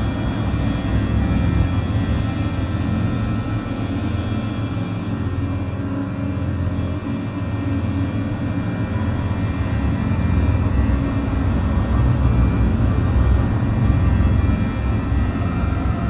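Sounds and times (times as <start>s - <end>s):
dark ambient drone music: 0.0s - 16.0s.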